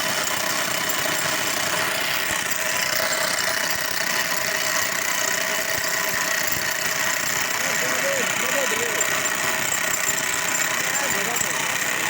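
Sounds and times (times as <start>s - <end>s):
engine-driven machinery running: 0.0s - 12.0s.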